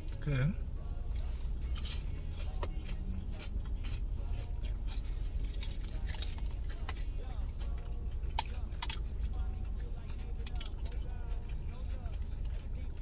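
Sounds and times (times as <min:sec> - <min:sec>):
person chewing crispy food: 0:00.0 - 0:13.0
steady low hum: 0:00.0 - 0:13.0.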